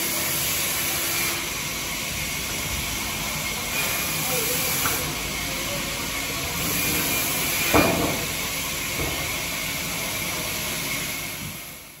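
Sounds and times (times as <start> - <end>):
sawmill yard ambience: 0.0 - 12.0.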